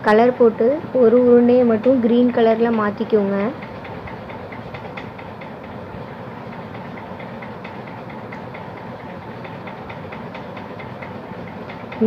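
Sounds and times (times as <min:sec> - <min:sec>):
machine whirring: 0:00.0 - 0:12.0
rapid even clicking: 0:01.0 - 0:12.0.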